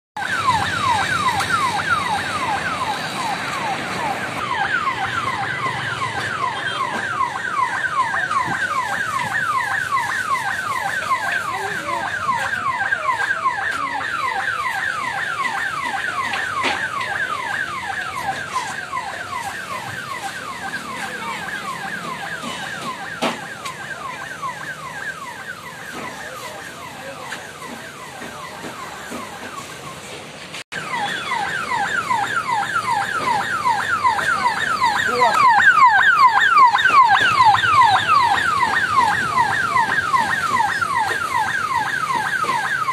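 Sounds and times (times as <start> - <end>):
ambulance siren yelping: 0.2 - 42.9.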